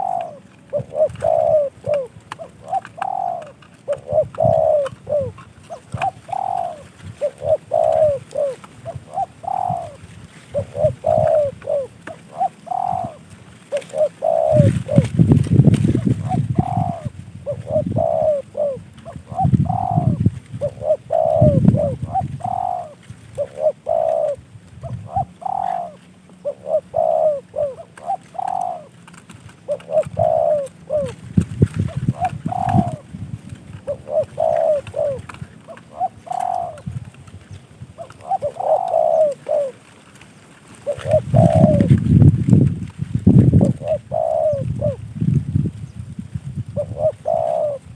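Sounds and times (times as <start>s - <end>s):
dove cooing: 0.0s - 42.6s, 43.3s - 47.9s.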